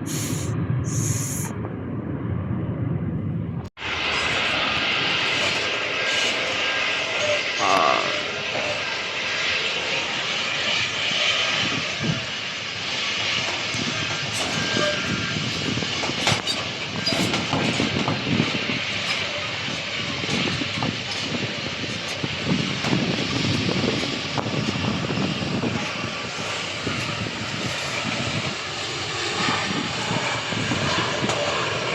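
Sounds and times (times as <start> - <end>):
aircraft engine rushing: 0.0 - 31.9.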